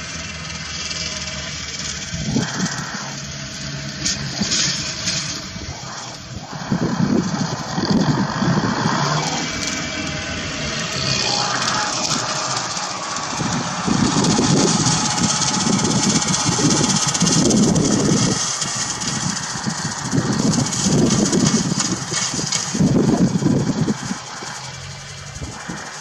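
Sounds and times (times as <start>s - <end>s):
constant hiss: 0.0s - 26.0s
tractor engine running: 0.0s - 26.0s.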